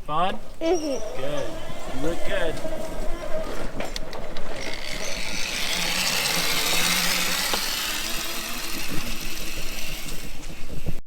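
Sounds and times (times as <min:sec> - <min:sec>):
electric dirt bike whining: 0:00.5 - 0:11.0.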